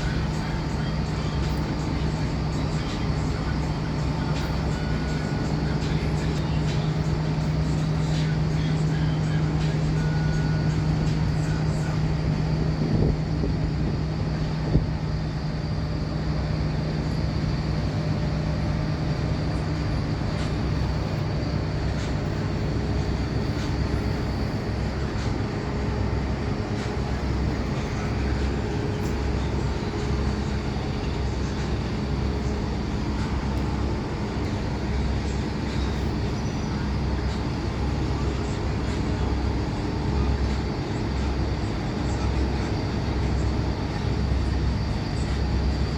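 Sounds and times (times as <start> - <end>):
low hum: 0.0 - 41.4
mechanical rumble: 0.0 - 45.9.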